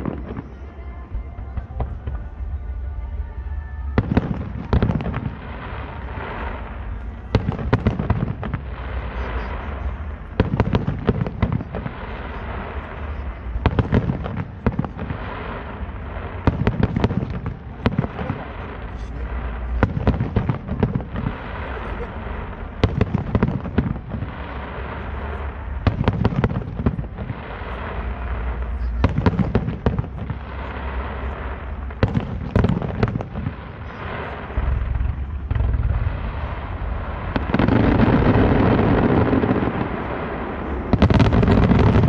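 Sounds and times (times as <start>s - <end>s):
rumbling haze: 0.0s - 42.0s
firework shells booming: 4.0s - 42.0s.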